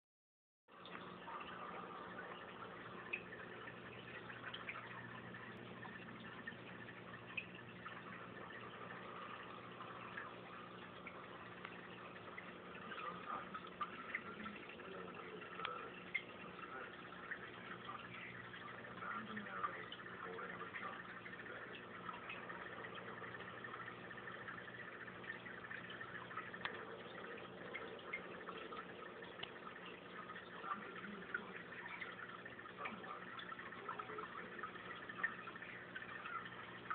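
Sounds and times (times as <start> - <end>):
aquarium water trickling and bubbling: 0.7 - 36.9
faint pump hum: 0.7 - 36.9
small water drips: 0.7 - 36.9.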